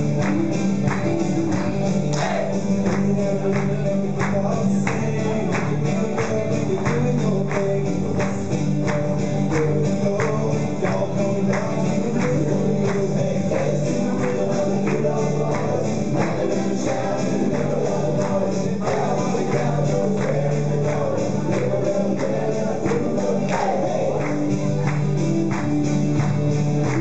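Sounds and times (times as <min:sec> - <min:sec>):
upbeat country song: 0:00.0 - 0:27.0.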